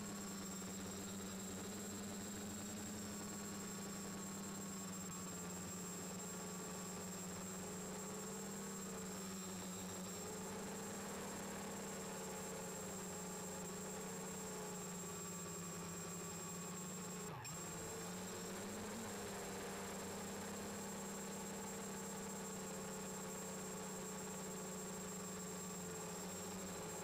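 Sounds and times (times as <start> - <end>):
quadcopter motors humming: 0.1 - 27.0.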